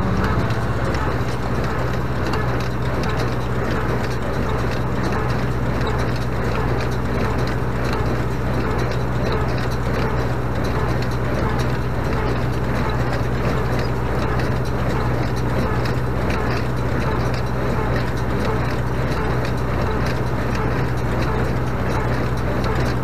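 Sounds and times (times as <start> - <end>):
baler clattering and knocking: 0.0 - 23.0
tractor engine running: 0.0 - 23.0.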